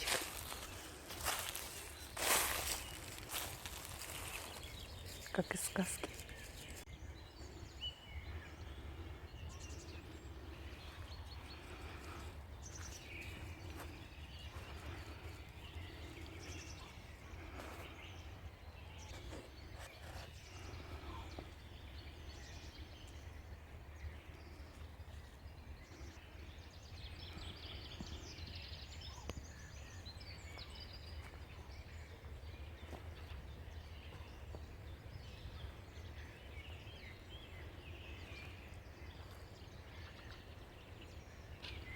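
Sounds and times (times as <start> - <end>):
songbird chirps: 0.0 - 41.9.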